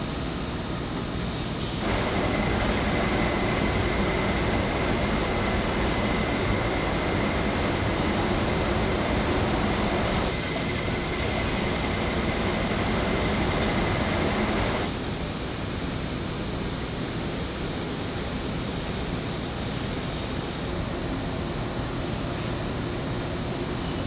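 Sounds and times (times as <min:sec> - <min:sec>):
factory conveyor machinery: 0:00.0 - 0:24.0.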